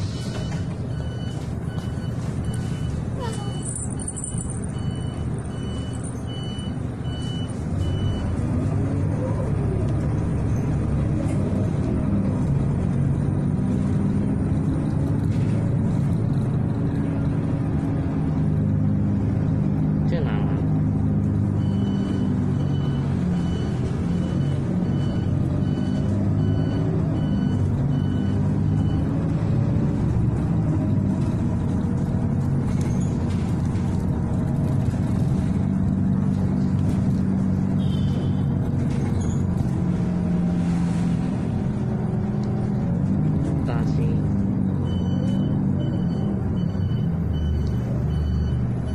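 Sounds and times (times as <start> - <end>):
bus engine running: 0.0 - 48.9
road noise: 0.0 - 48.9.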